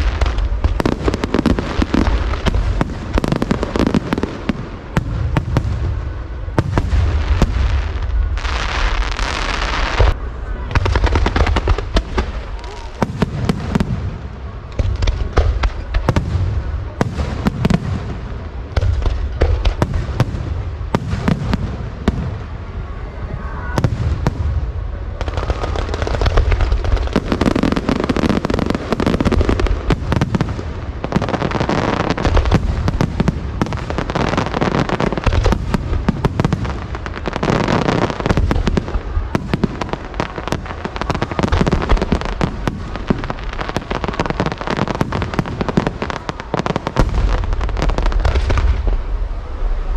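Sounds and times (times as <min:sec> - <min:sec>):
fireworks crackling: 0:00.0 - 0:49.9.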